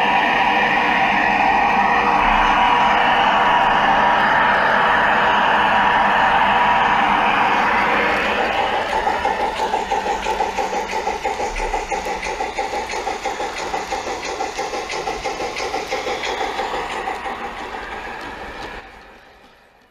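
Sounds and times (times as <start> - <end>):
model train humming and clicking: 0.0 - 19.9.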